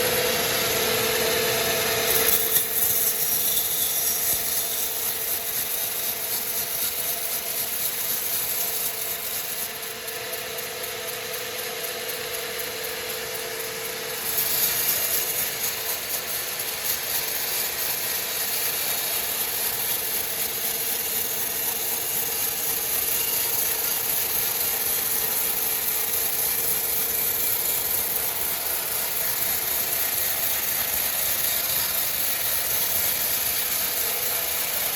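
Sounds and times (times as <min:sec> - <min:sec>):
saw cutting through log: 0:00.0 - 0:34.9
sawmill machinery running: 0:00.0 - 0:34.9
steady machine whine: 0:00.0 - 0:34.9.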